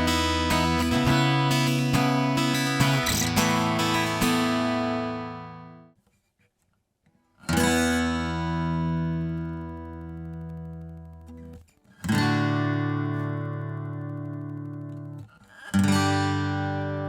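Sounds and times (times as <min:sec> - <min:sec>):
acoustic guitar chords ringing: 0:00.0 - 0:06.0, 0:07.5 - 0:17.0.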